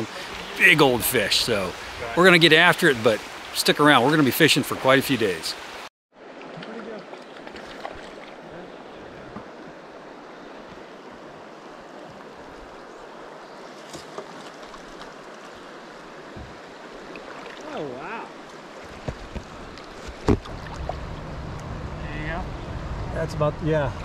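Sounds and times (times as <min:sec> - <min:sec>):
river current running: 0:00.0 - 0:24.0.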